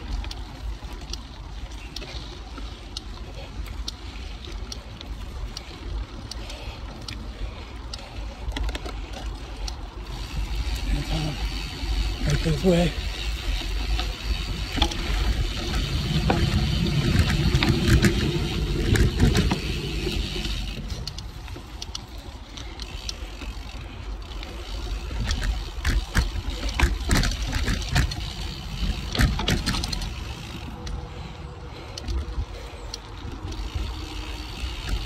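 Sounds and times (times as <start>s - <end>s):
air and tyre rush: 0.0s - 35.0s
bike clacks and rattles: 0.0s - 35.0s.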